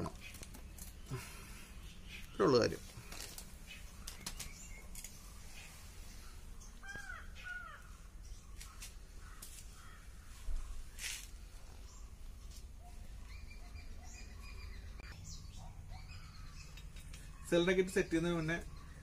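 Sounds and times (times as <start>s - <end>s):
bird calling: 0.0s - 19.0s.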